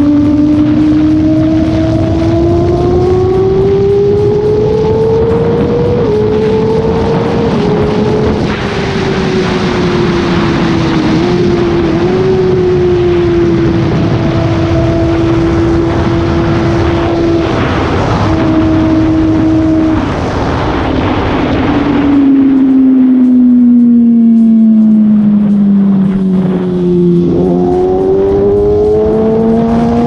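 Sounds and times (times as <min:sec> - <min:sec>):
motorcycle engine at high revs: 0:00.0 - 0:30.0
wind rush: 0:00.0 - 0:30.0.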